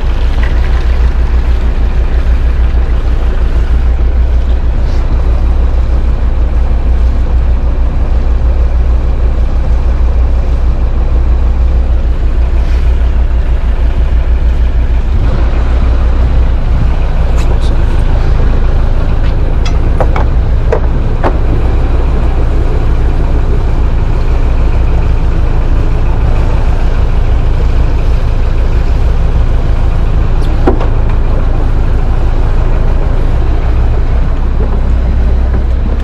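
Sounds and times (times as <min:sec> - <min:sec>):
boat engine rumbling: 0:00.0 - 0:36.0.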